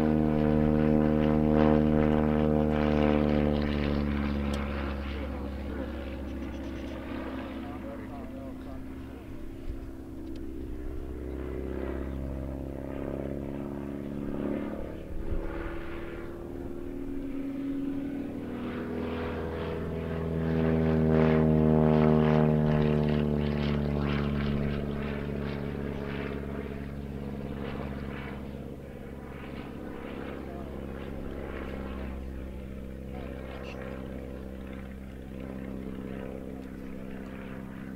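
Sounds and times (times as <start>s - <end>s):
propeller plane engine droning: 0.0s - 37.9s.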